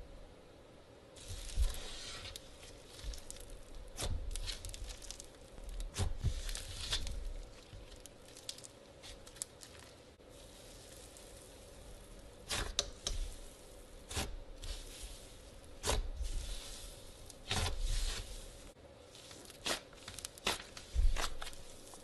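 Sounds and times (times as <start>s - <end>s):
slime squelching and popping: 1.2s - 11.5s, 14.0s - 22.0s.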